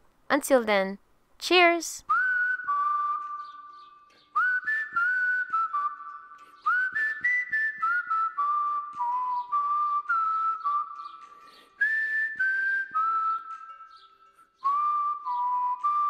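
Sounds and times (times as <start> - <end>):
whistled melody with light backing: 2.0 - 16.0.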